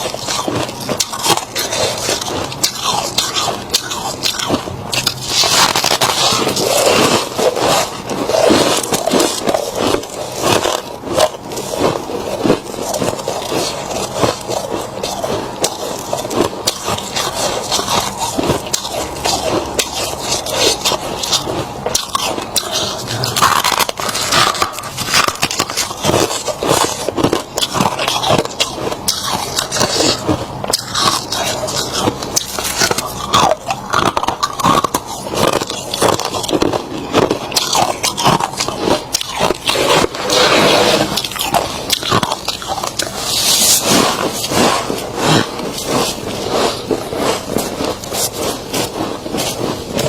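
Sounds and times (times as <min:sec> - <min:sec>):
frost crunching and scraping: 0:00.0 - 0:50.0.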